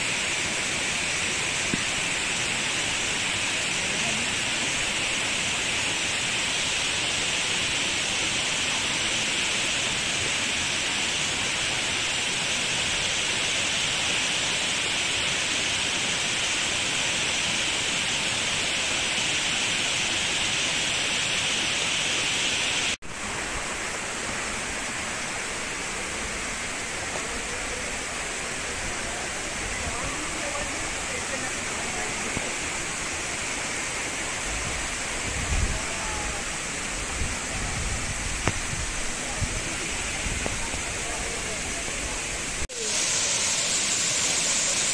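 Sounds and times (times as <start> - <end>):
waterfall rushing over dam: 0.0 - 44.9.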